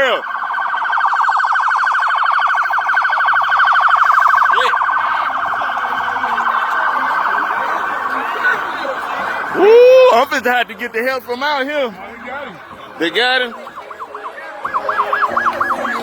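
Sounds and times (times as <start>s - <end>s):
police siren yelping: 0.0s - 10.5s, 12.5s - 16.0s.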